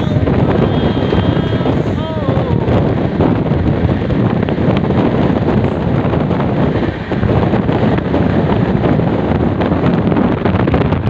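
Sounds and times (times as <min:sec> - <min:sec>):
train running noise: 0:00.0 - 0:11.0
wind rushing over microphone: 0:00.0 - 0:11.0.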